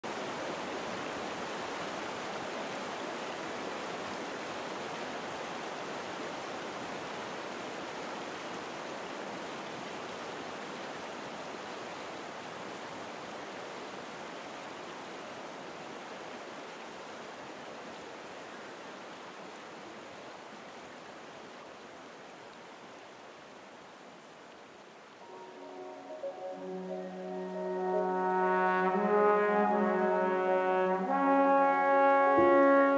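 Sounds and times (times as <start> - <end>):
river water rushing over rapids: 0.0 - 31.0.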